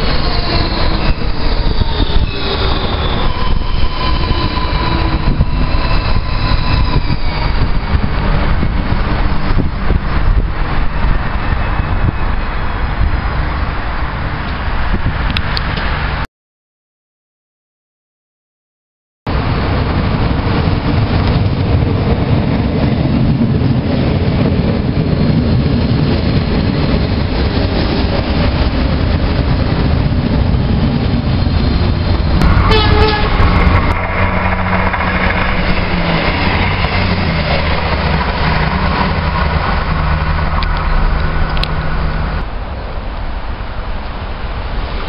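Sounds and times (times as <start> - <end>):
electric train rumbling: 0.0 - 16.2, 19.3 - 45.0.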